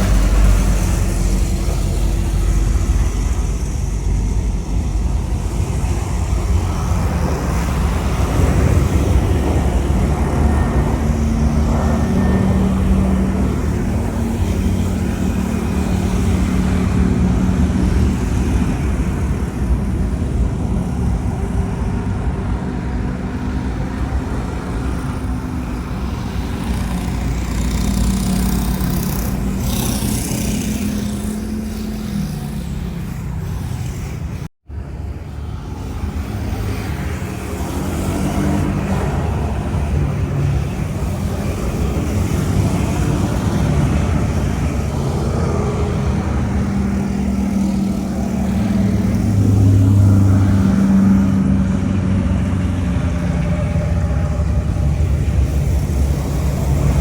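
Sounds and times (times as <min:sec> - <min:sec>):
jet airliner engines roaring: 0:00.0 - 0:57.0.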